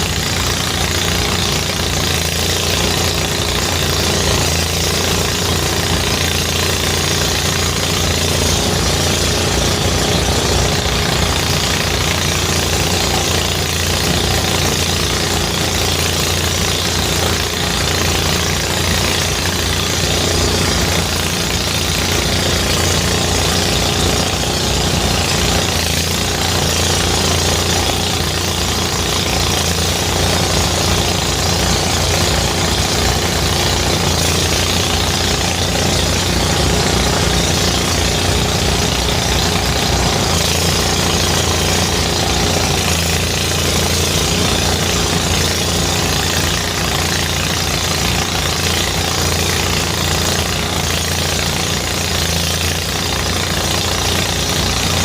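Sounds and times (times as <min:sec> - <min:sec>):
rice thresher engine knocking: 0:00.0 - 0:55.0.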